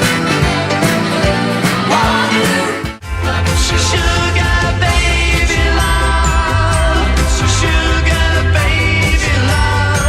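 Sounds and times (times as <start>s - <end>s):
pop song with full band: 0.0s - 10.0s.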